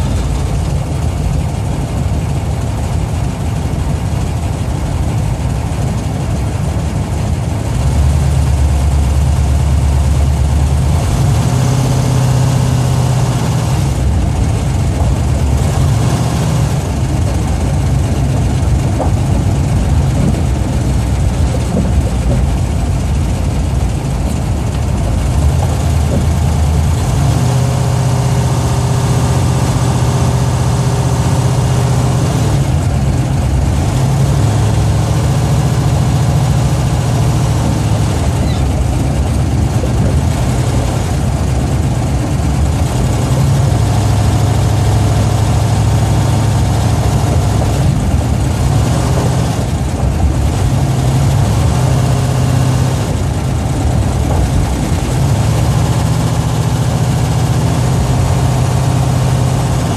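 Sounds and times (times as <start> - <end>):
car engine drone from inside cabin: 0.0 - 59.9.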